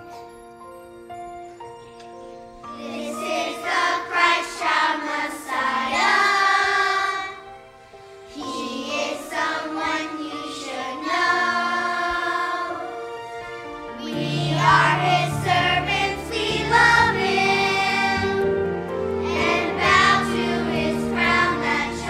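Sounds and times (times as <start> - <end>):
instrumental accompaniment: 0.0 - 22.0
children's choir singing: 2.7 - 7.7, 8.3 - 22.0.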